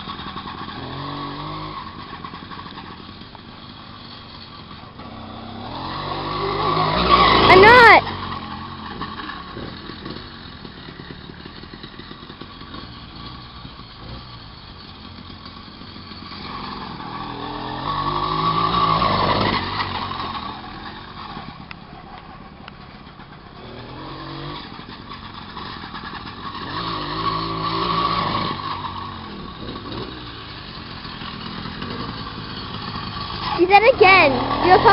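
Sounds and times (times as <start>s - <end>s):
moped engine revving: 0.0s - 34.9s.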